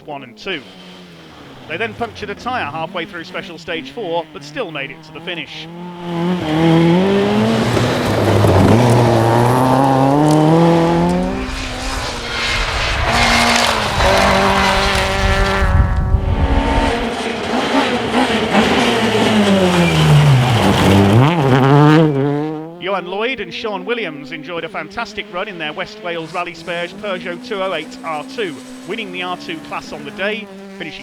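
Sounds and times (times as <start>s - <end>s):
tyres on gravel: 0.0s - 22.6s, 24.0s - 31.0s
rally car engine revving: 0.0s - 31.0s.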